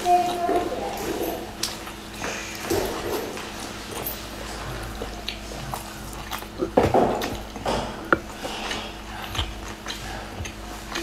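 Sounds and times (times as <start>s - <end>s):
wet chewing and lip smacks: 0.0s - 11.0s.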